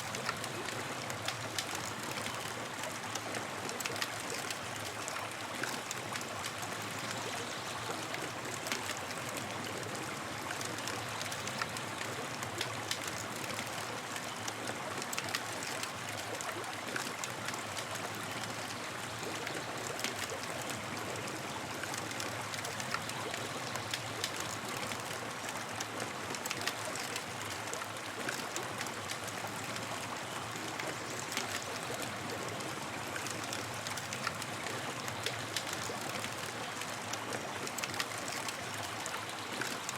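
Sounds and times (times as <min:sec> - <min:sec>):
campfire crackling and hissing: 0:00.0 - 0:39.9.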